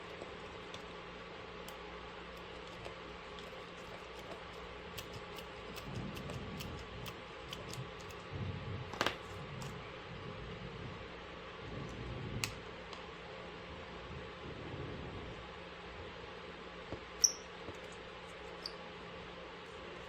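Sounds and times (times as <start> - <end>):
low hum: 0.0 - 16.1.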